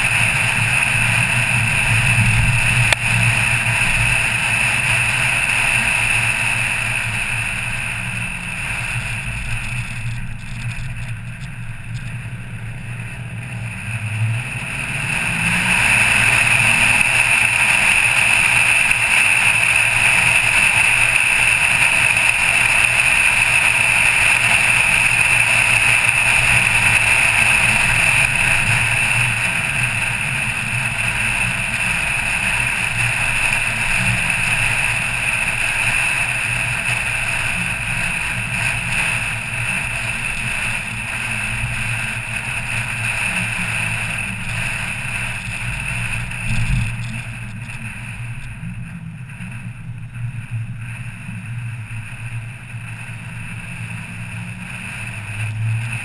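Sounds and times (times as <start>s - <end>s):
low engine hum: 0.0s - 56.0s
wind and road rush: 0.0s - 56.0s.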